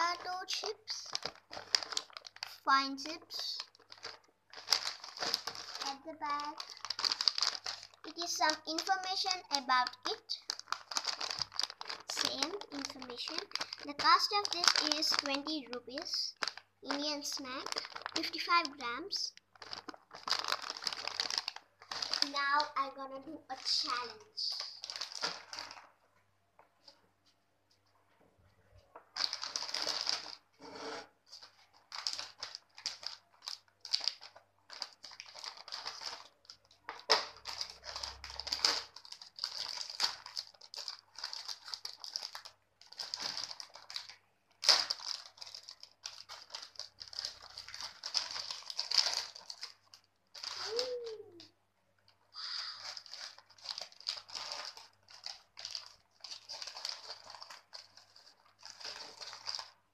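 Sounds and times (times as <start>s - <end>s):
chip packet crinkling: 0.0s - 26.0s, 29.0s - 51.5s, 52.1s - 59.9s.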